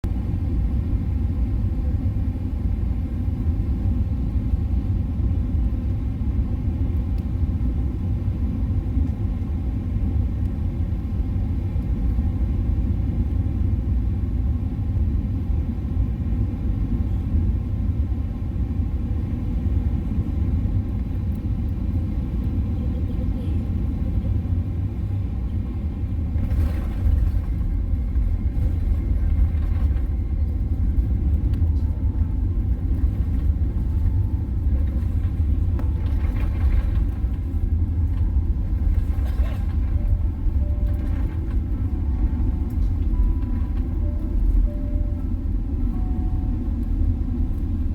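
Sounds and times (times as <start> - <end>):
airplane cabin rumble: 0.0 - 47.9.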